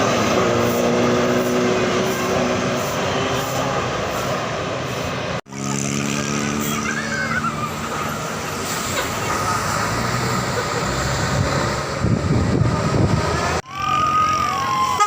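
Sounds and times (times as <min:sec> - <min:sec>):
traffic and engine noise: 0:00.0 - 0:15.0.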